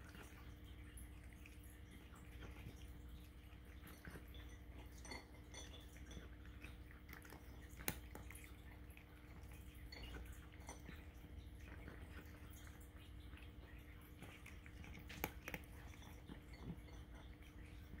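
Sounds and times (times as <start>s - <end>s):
cat crunching dry kibble: 0.0s - 18.0s.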